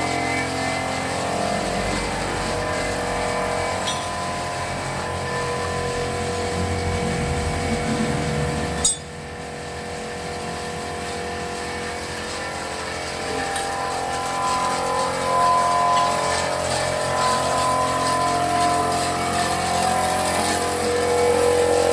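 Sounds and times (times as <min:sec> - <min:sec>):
machine motor running: 0:00.0 - 0:21.9.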